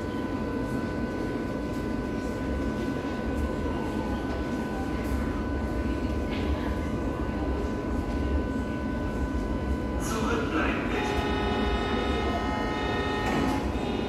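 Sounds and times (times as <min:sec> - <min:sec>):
train humming at platform: 0:00.0 - 0:14.0.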